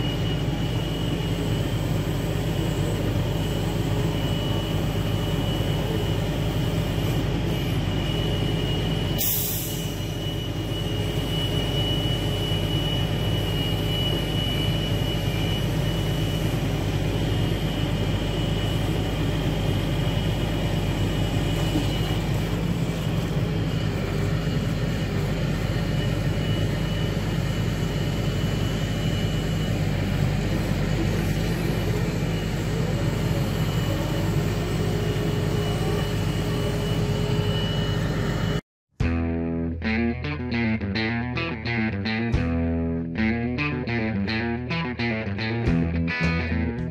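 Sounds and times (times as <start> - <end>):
hydraulic whine: 0.0 - 38.6
truck engine running: 0.0 - 38.6.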